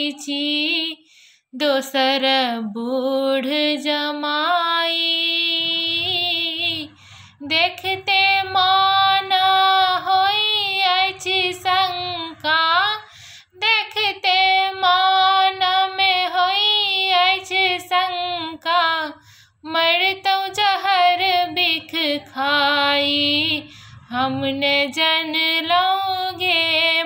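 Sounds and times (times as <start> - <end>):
woman singing unaccompanied: 0.0 - 27.0.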